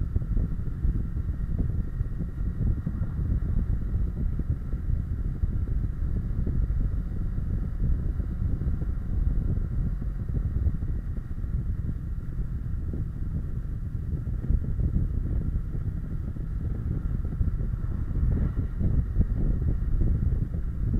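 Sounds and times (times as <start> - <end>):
motorcycle engine running: 0.0 - 20.9
wind rumble on microphone: 0.0 - 20.9.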